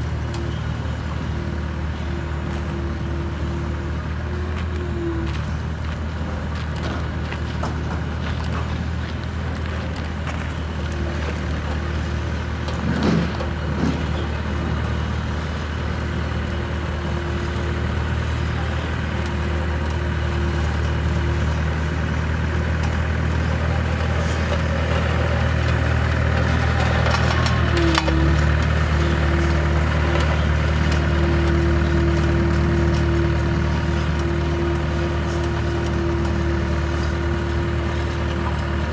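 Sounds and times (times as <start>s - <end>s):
road roller diesel engine: 0.0s - 38.9s.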